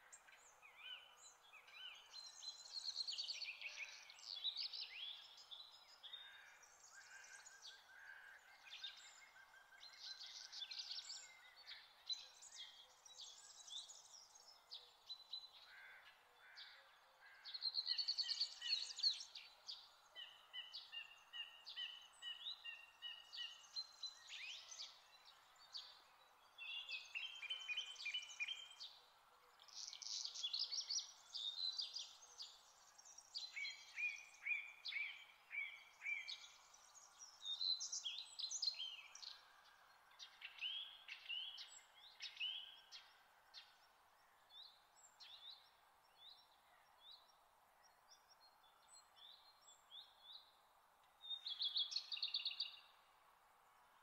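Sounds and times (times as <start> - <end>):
faint steady hiss: 0.0 - 54.0
songbirds singing: 0.0 - 54.0.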